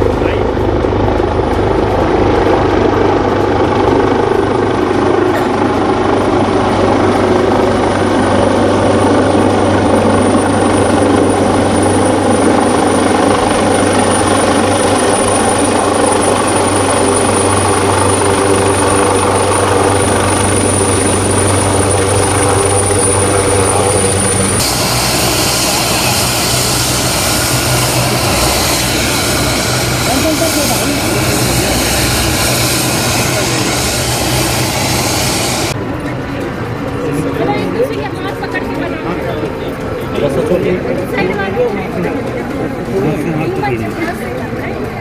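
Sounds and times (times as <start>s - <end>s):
helicopter rotor and engine noise: 0.0s - 45.0s
high turbine whine: 0.0s - 45.0s.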